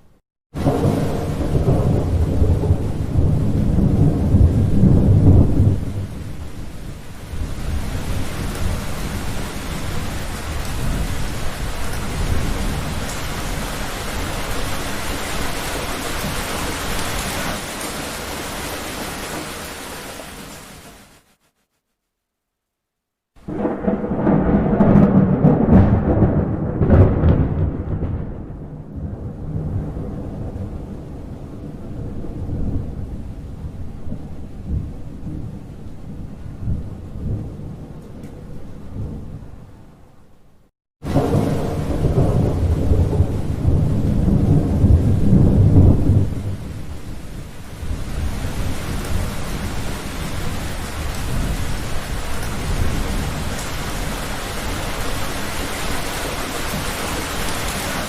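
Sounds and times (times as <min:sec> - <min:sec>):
heavy rain: 0:00.5 - 0:21.4, 0:23.4 - 0:39.6, 0:41.0 - 0:58.0
thunder rumbling: 0:00.6 - 0:19.9, 0:23.4 - 0:39.8, 0:41.0 - 0:58.0.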